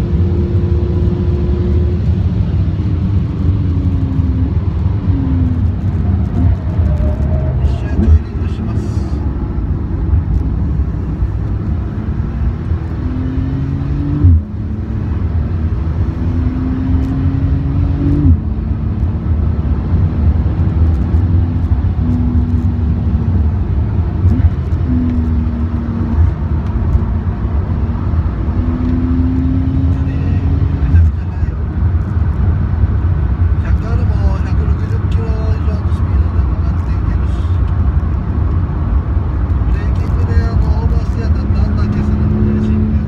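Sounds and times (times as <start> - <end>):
car engine accelerating hard: 0.0 - 43.0
road and wind noise: 0.0 - 43.0.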